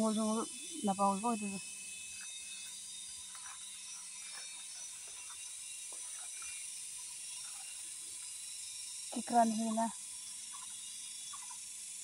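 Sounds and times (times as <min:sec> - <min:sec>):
insects buzzing shrilly: 0:00.0 - 0:12.0.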